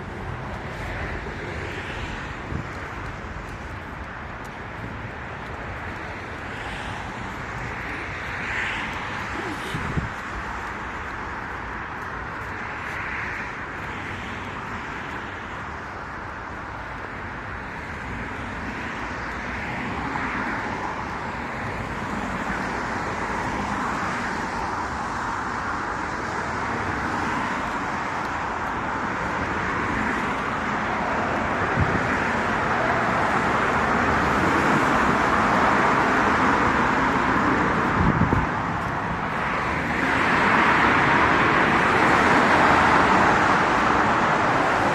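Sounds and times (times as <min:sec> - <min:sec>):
road traffic: 0:00.0 - 0:44.9.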